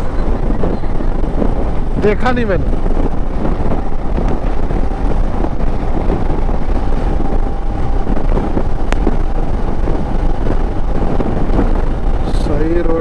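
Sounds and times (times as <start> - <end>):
motorcycle engine: 0.0 - 13.0
road noise: 0.0 - 13.0
wind rushing over microphone: 0.0 - 13.0.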